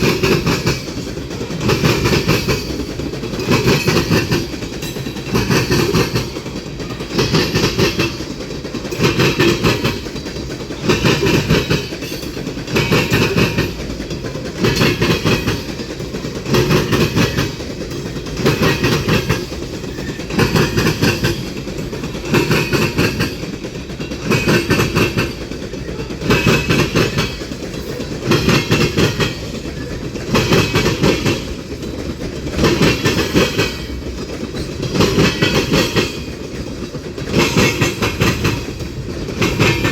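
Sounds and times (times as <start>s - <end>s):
train rolling rumble: 0.0s - 39.9s
train wheels clacking over rail joints: 0.0s - 39.9s.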